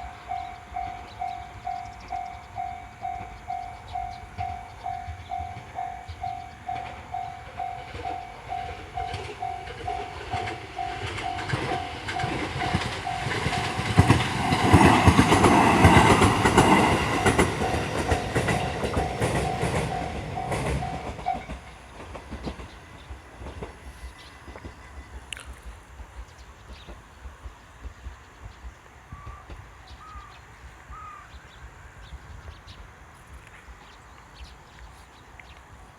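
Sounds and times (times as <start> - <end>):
train rumble and wheel clatter: 0.0 - 35.9.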